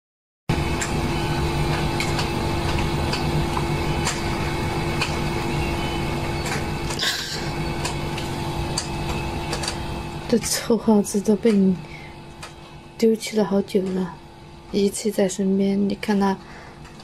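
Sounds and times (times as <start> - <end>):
machine hum: 0.5 - 17.0.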